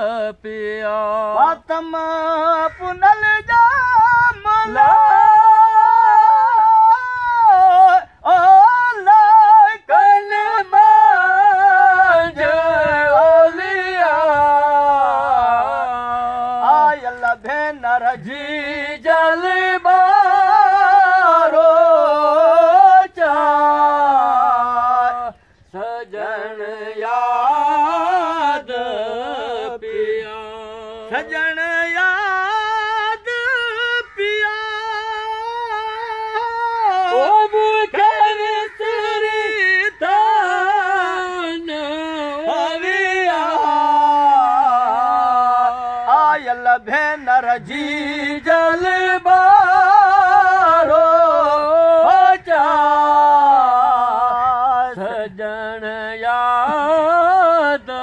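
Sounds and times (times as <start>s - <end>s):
man singing unaccompanied: 0.0s - 58.0s.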